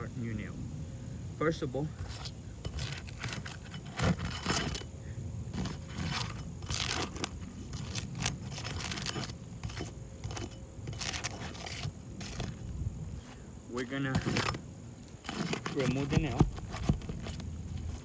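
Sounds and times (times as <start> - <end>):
metal bar scraping under shingle: 1.8 - 18.0.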